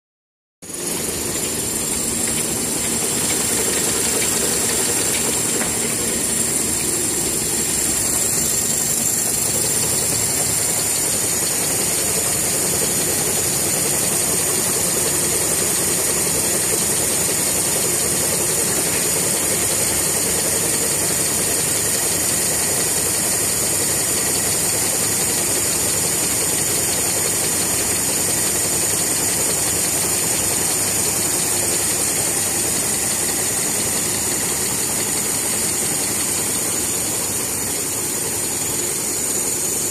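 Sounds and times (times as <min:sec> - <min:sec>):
high-pitched machine whine: 0:00.6 - 0:39.9
machine running with hiss: 0:00.6 - 0:39.9.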